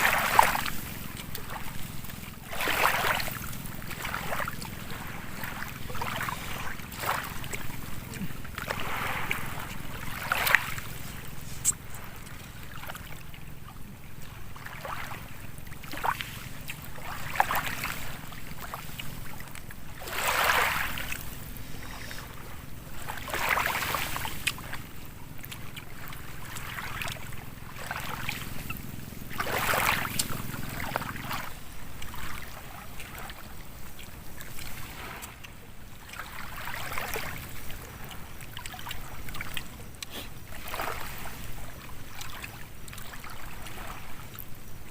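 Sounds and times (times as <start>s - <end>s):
steady low rumble: 0.0s - 44.9s
water sloshing and lapping: 0.0s - 44.9s.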